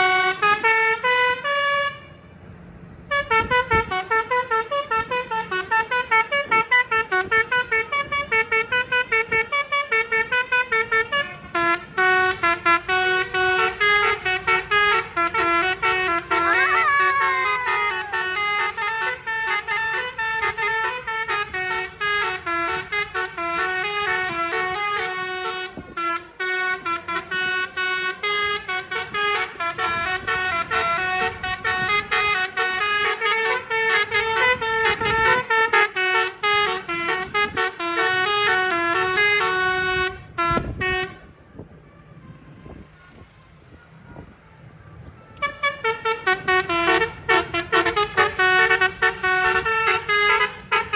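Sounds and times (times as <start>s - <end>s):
multi-tone bus horn melody: 0.0s - 50.9s.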